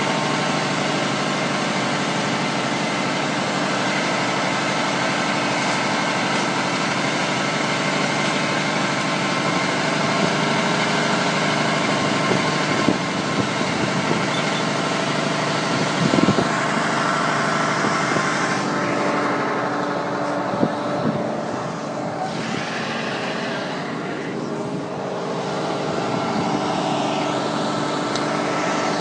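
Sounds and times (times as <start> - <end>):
fire truck engine running: 0.0 - 29.0.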